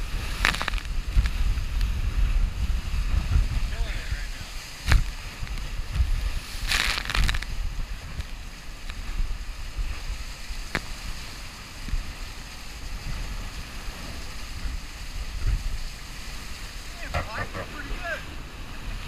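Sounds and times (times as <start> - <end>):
water rushing past hull: 0.0 - 19.0
wind buffeting microphone: 0.0 - 19.0.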